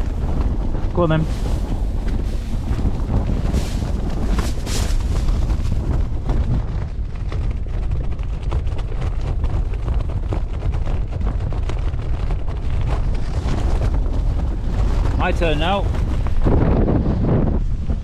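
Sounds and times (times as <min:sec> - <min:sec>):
tent fabric and snow rustling: 0:00.0 - 0:18.0
wind buffeting microphone: 0:00.0 - 0:18.0.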